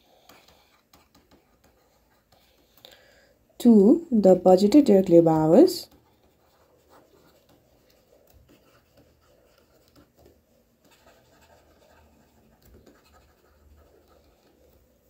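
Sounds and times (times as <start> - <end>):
stylus scratching and tapping on screen: 0.0 - 3.0, 4.2 - 15.0.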